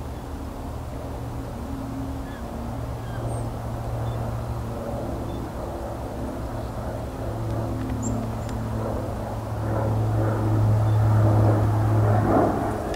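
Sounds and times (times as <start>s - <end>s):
low engine drone: 0.0s - 12.9s.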